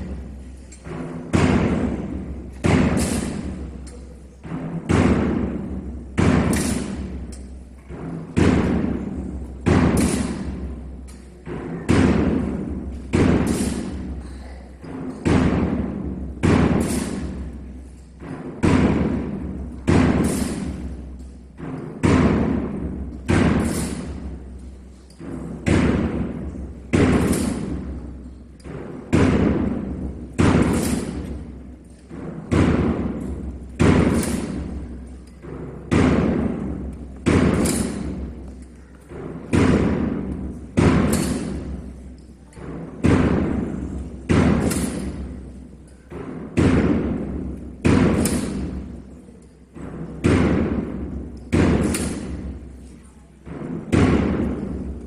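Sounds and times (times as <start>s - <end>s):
heavy drum strikes echoing: 0.0s - 55.0s.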